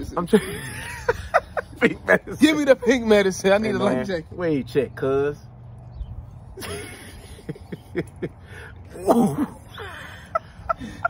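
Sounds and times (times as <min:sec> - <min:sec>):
men murmuring: 0:00.0 - 0:04.4, 0:06.4 - 0:11.0.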